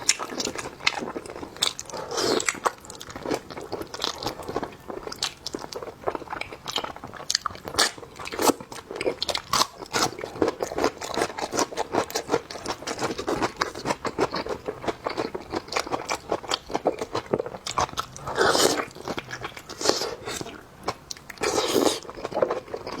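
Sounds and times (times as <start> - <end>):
person chewing wet and crunchy: 0.0 - 23.0.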